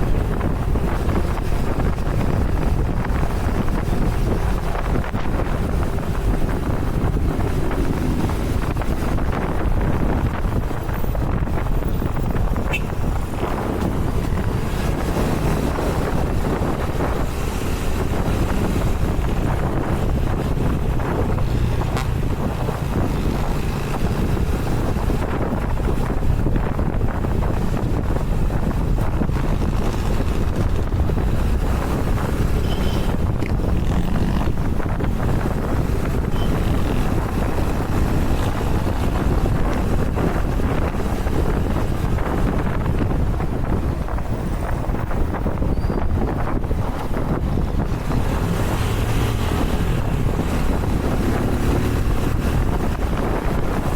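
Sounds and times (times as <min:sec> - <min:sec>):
motorcycle engine: 0:00.0 - 0:53.9
road noise: 0:00.0 - 0:53.9
wind buffeting microphone: 0:00.0 - 0:53.9.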